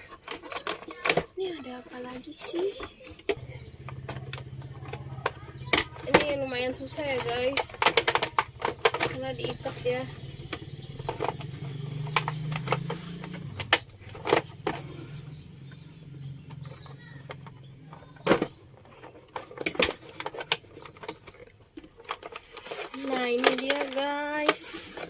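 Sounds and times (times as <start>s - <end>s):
plastic packaging crackling: 0.0s - 14.9s, 15.7s - 25.0s.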